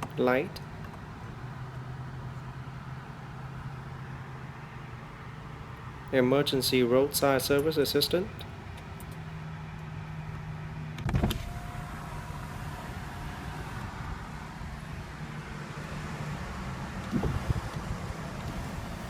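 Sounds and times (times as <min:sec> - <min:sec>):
car cabin hum: 0:00.0 - 0:09.4, 0:11.1 - 0:19.0.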